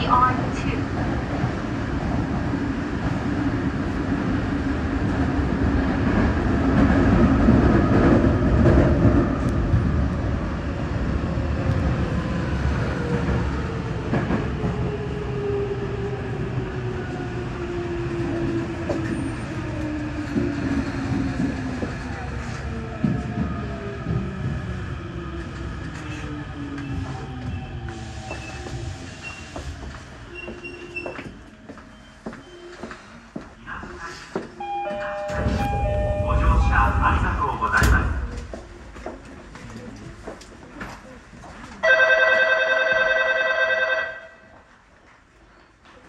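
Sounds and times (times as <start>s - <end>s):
rumble of wheels on rail: 0.0s - 46.0s.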